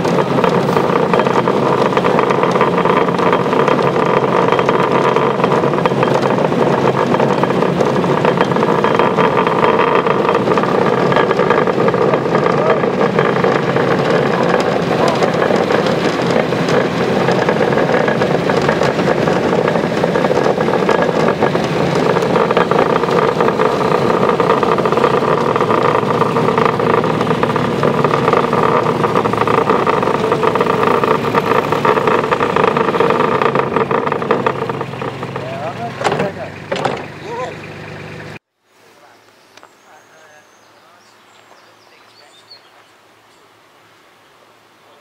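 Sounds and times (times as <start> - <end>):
miniature locomotive engine running: 0.0 - 38.4.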